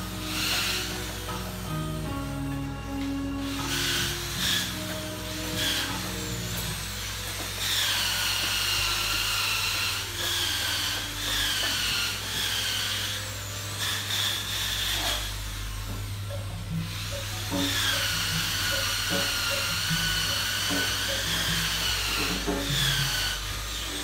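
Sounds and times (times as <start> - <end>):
power tool whining: 0.0 - 24.0.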